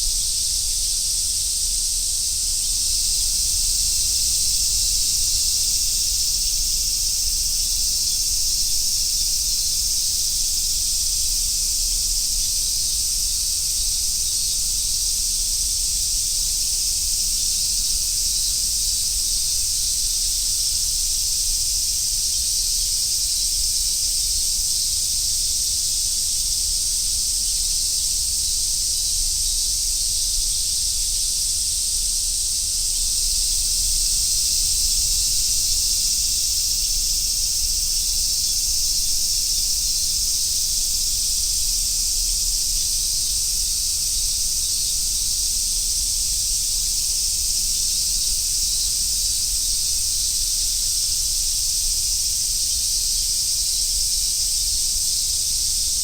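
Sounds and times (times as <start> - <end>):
cicadas shrilling: 0.0 - 56.0.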